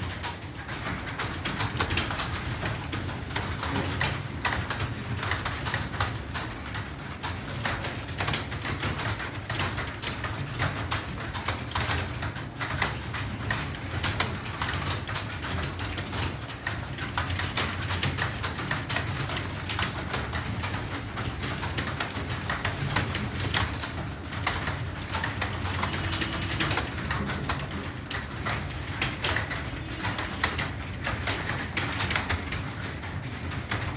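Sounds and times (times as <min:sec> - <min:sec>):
fast keyboard typing: 0:00.0 - 0:33.9.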